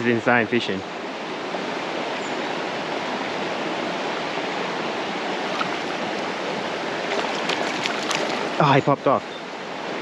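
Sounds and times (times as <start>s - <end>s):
water rushing over rocks: 1.2s - 10.0s.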